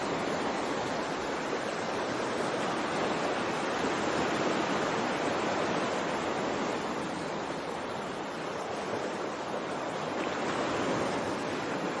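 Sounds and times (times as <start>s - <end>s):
water waves washing: 0.0s - 12.0s.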